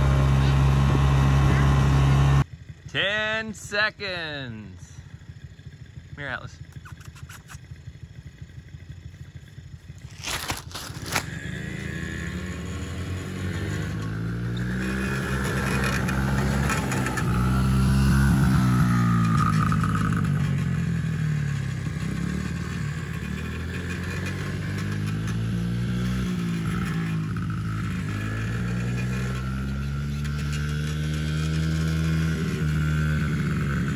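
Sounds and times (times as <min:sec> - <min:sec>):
vehicle engine revving: 0:00.0 - 0:02.5, 0:07.1 - 0:33.9.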